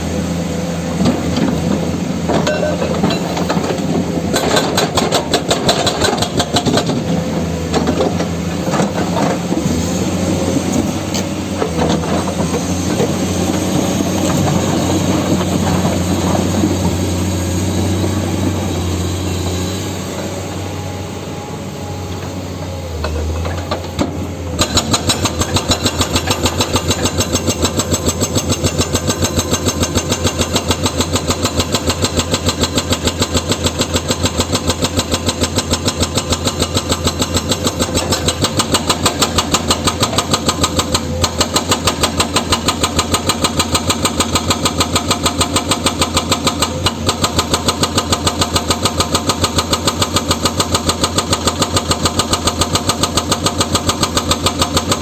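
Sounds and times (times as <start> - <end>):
diesel engine pulsing steadily: 0.0 - 55.0.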